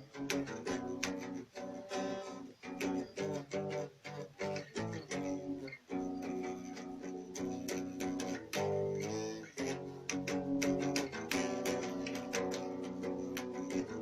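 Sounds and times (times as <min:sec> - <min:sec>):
guitar chords strummed: 0:00.0 - 0:14.0.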